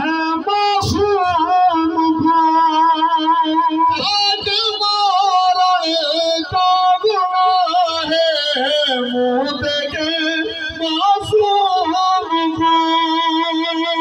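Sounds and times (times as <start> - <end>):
man chanting a lament: 0.0 - 14.0.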